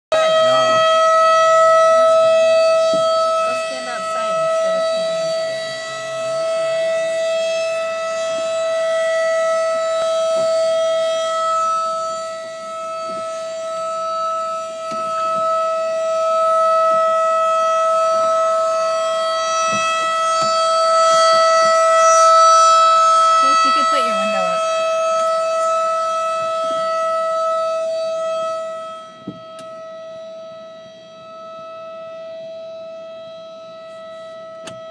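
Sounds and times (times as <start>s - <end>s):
warning siren steady tone: 0.0s - 34.9s.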